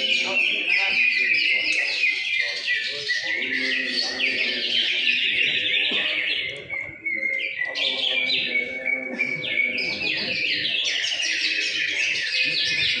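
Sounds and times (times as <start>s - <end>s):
birds singing high chirps and trills: 0.0s - 13.0s.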